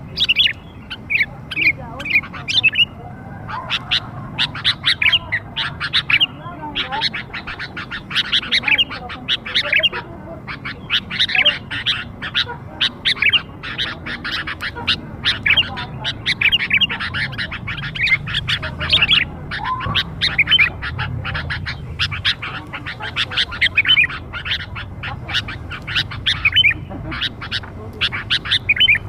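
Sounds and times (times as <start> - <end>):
bulbul chattering calls: 0.0 - 29.0.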